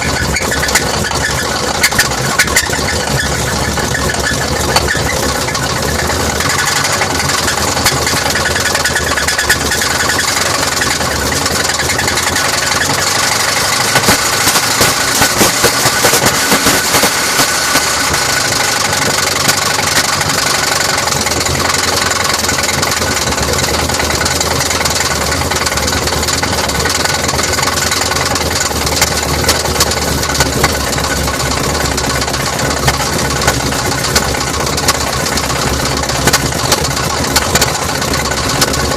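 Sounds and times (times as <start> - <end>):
engine idling: 0.0 - 38.9
fast ticking in engine: 0.0 - 38.9.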